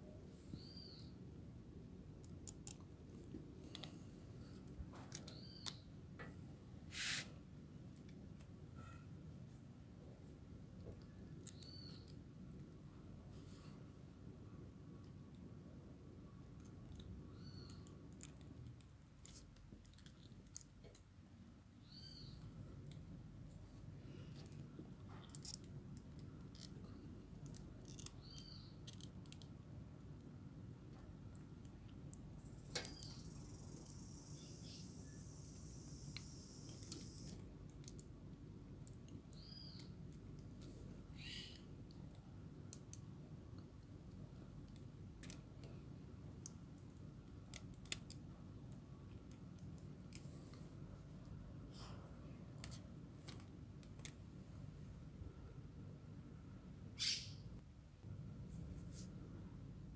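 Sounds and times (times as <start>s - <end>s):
faint low rumble: 0.0s - 59.9s.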